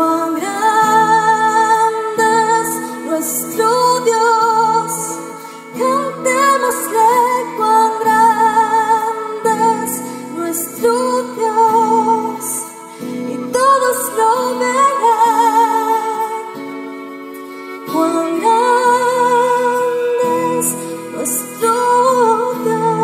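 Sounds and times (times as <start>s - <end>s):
woman singing with vibrato: 0.0s - 23.0s.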